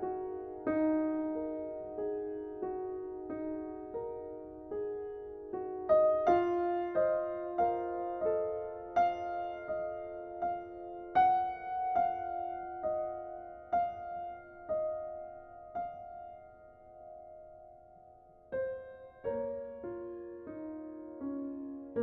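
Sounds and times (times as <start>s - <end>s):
slow solo piano music: 0.0s - 22.0s.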